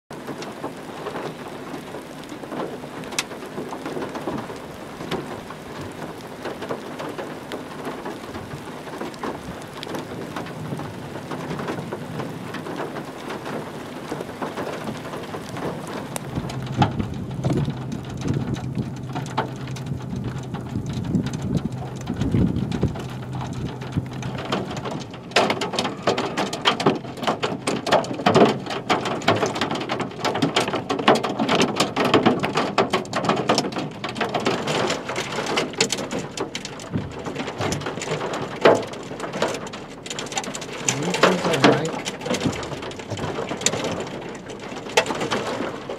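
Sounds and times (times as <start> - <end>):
rain pattering on car: 0.1 - 45.9.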